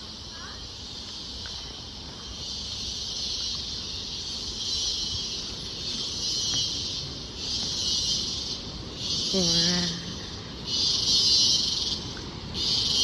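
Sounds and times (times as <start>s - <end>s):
insect chorus buzzing: 0.0s - 13.0s.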